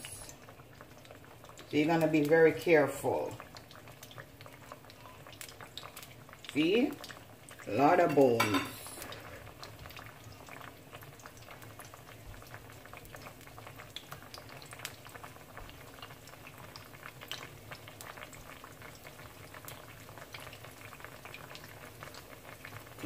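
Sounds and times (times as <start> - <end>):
plantain frying in oil: 0.0 - 23.0.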